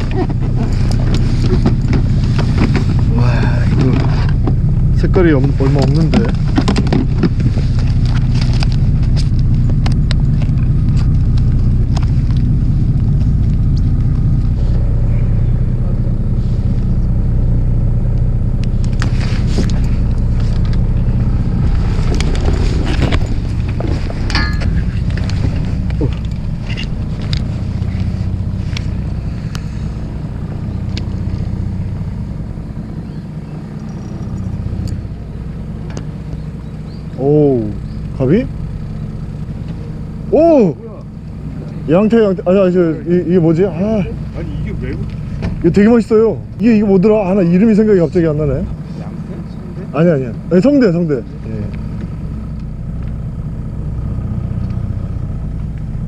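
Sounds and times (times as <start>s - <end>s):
boat engine rumbling: 0.0s - 56.0s.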